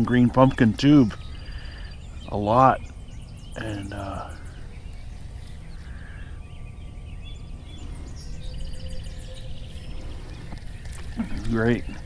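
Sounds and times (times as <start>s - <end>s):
rapid repeated bird trill: 0.0s - 12.0s
songbirds chirping and trilling: 0.0s - 12.0s
steady low rumble: 0.0s - 12.0s.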